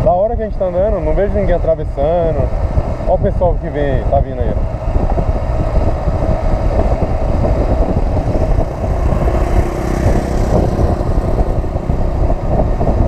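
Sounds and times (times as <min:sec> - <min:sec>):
motorcycle engine running: 0:02.4 - 0:13.0.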